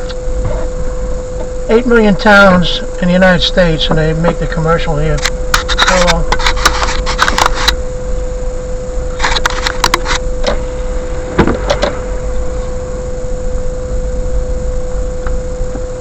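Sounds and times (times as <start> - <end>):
car cabin rumble: 0.0 - 16.0
mid-pitched hum: 0.0 - 16.0.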